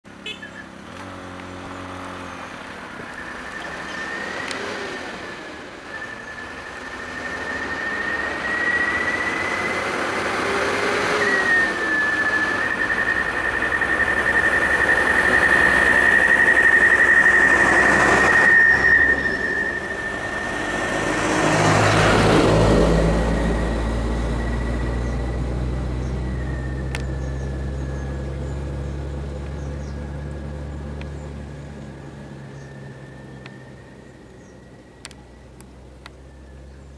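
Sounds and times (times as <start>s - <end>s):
low engine hum: 0.0s - 36.9s
vehicles passing: 0.0s - 36.9s
high-pitched whine: 2.2s - 36.9s.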